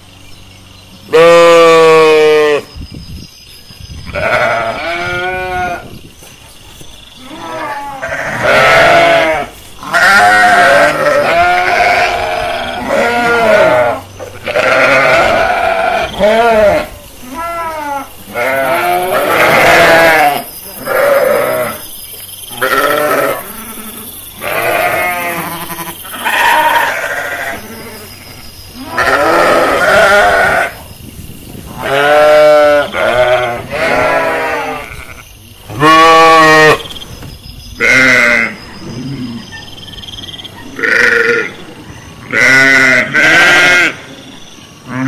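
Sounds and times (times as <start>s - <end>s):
sheep and lambs bleating: 1.1s - 2.7s, 4.0s - 6.0s, 7.2s - 21.9s, 22.5s - 30.8s, 31.7s - 36.8s, 37.8s - 39.4s, 40.6s - 41.6s, 42.3s - 44.1s.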